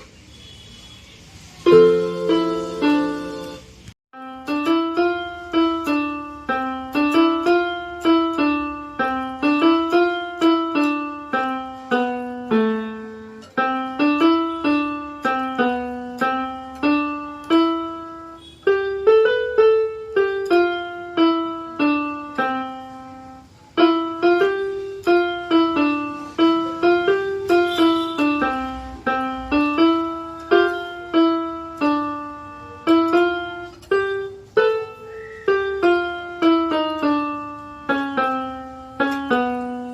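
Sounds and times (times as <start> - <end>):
electronic keyboard piano melody: 1.6 - 39.9.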